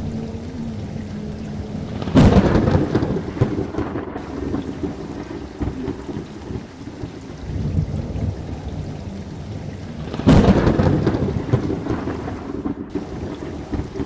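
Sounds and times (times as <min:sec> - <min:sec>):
steady rain: 0:00.0 - 0:14.0
thunderclap rumbling: 0:00.0 - 0:14.0.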